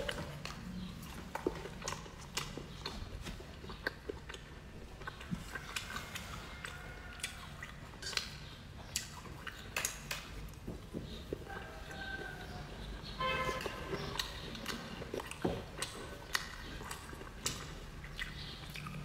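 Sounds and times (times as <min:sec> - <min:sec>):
person chewing with wet smacks: 0:00.0 - 0:19.0.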